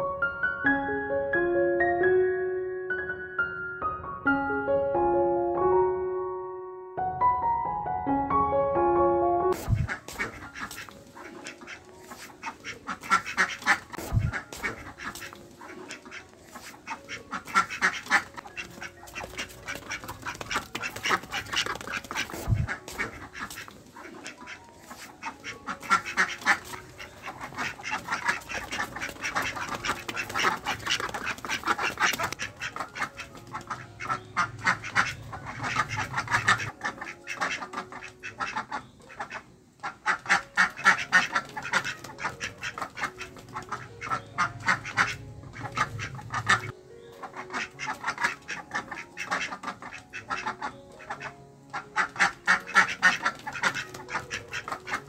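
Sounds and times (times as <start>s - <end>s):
ducks quacking: 9.6s - 55.0s.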